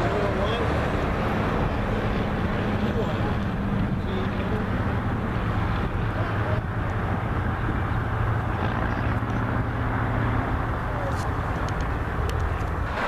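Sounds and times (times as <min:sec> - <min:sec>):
aircraft engine droning: 0:00.0 - 0:13.0.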